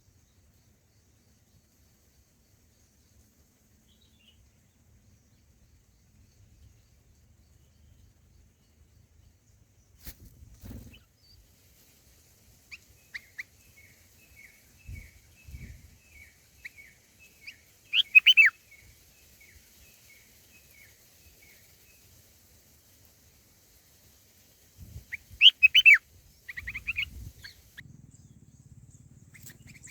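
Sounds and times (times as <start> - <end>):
small bird chirping: 0.0 - 29.9.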